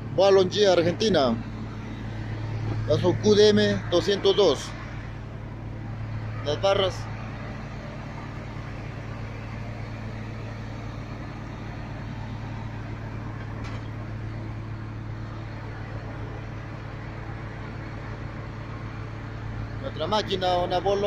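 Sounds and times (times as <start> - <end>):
drill rig engine running: 0.0 - 21.0.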